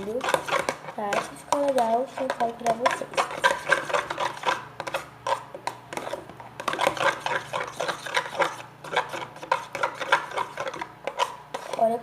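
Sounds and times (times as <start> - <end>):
utensil stirring thick slime: 0.0 - 12.0.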